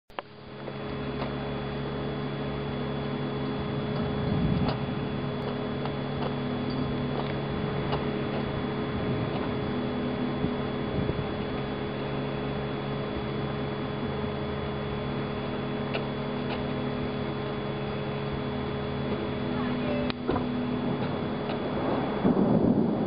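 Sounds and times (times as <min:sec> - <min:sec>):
steady appliance hum: 0:00.1 - 0:23.0.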